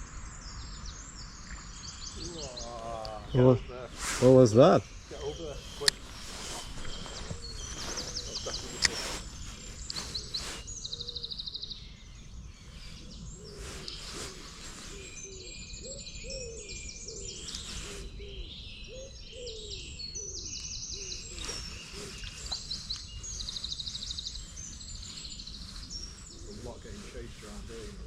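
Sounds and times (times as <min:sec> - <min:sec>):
lower bird calling: 0:00.0 - 0:28.0
songbirds trilling and warbling: 0:00.0 - 0:28.0.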